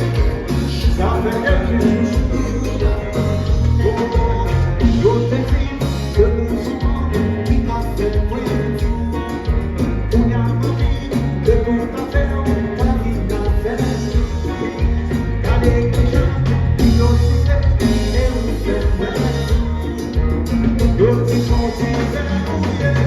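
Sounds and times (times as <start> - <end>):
bass and drum groove: 0.0 - 23.0
live band playing: 0.0 - 23.0.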